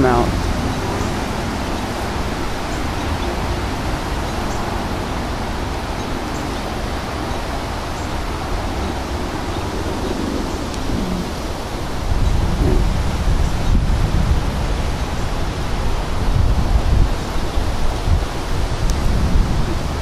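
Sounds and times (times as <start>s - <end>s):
strong wind blowing: 0.0s - 20.0s
wind buffeting microphone: 0.0s - 20.0s.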